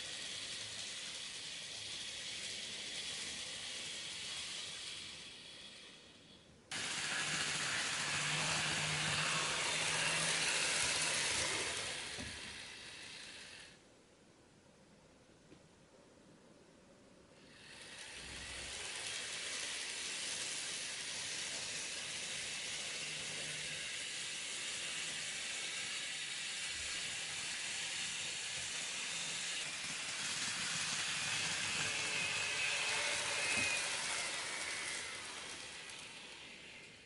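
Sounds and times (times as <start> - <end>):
model train wheels rolling: 0.0 - 13.8, 17.4 - 37.0
faint high whine: 0.0 - 15.6, 16.4 - 37.0.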